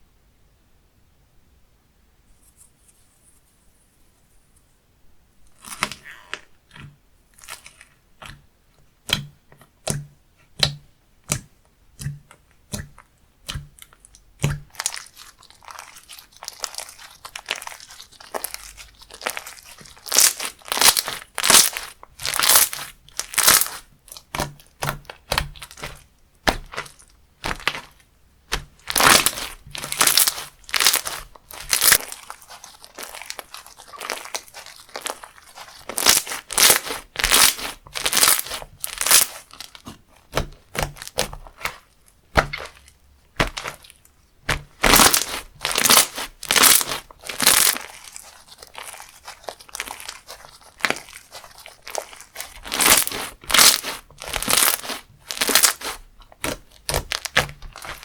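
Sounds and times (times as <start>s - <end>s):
crunchy slime squishing: 5.5s - 58.0s.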